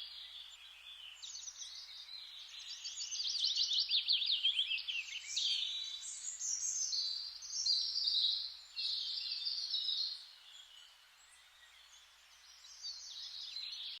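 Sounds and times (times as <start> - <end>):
birds chirping and singing: 0.0 - 14.0
forest ambience hiss: 0.0 - 14.0.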